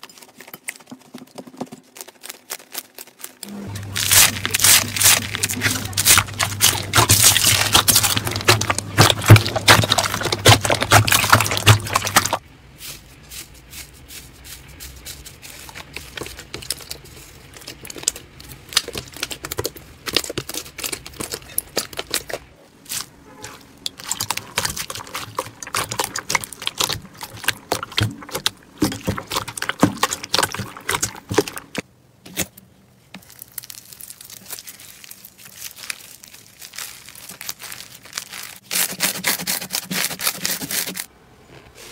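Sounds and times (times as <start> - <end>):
slime squeezed crackling: 1.8 - 12.9, 14.8 - 31.8, 33.2 - 41.1.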